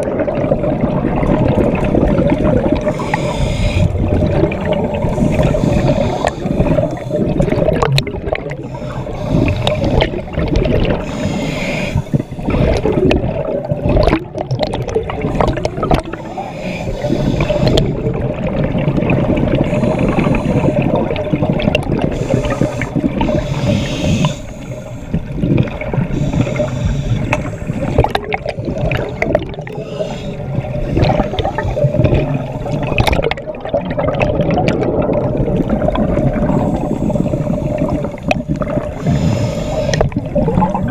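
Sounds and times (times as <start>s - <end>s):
underwater bubbles exhaled: 0.0s - 40.9s.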